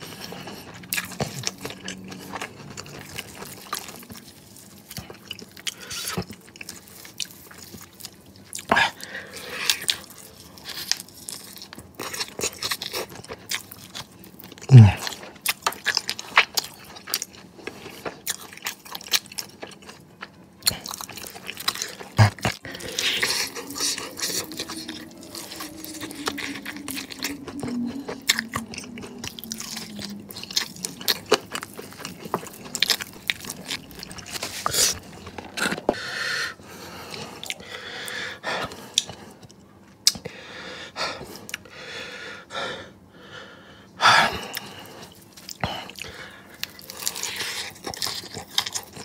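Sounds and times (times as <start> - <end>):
crunching fried chicken: 0.0 - 35.9, 44.4 - 49.0.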